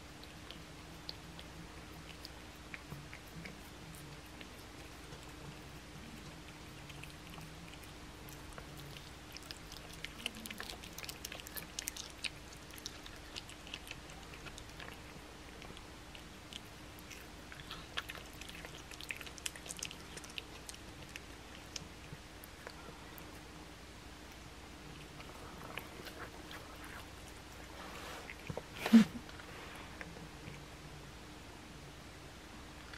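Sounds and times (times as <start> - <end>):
cat chewing and licking: 0.0 - 30.8.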